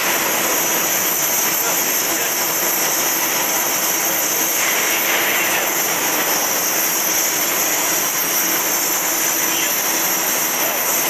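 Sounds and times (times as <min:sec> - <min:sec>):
cutting torch hissing roar: 0:00.0 - 0:11.0.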